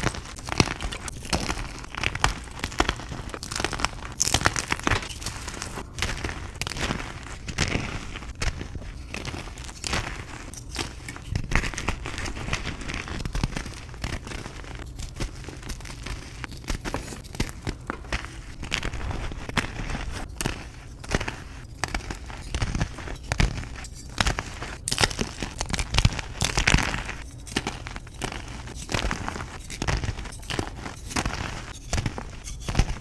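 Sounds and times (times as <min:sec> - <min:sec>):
chalk crumbling and crunching: 0:00.0 - 0:33.0.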